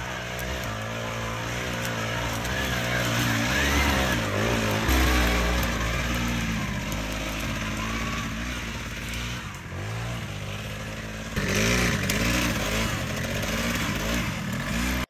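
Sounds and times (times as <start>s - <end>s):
motorcycle engine pulling under load: 0.0s - 15.0s.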